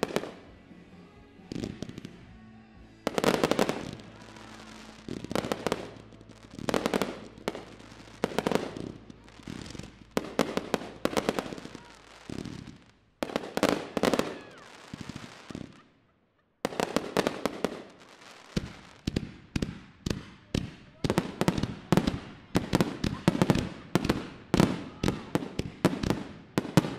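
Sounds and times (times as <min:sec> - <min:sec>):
fireworks bangs: 0:00.0 - 0:00.6, 0:03.0 - 0:16.0, 0:16.6 - 0:26.9.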